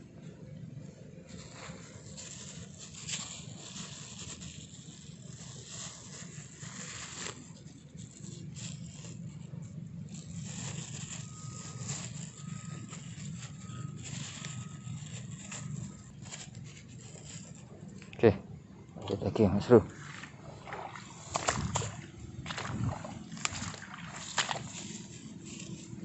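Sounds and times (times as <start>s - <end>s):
rustling and scraping of bag: 0.1s - 18.2s, 19.2s - 26.0s.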